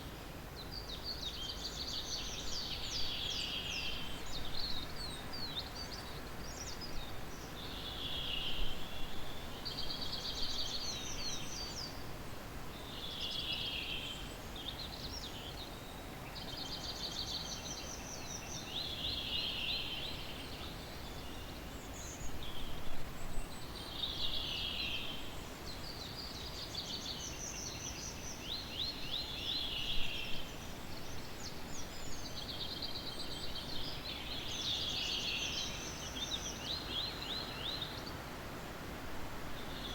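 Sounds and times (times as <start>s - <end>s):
low steady background hiss: 0.0s - 39.9s.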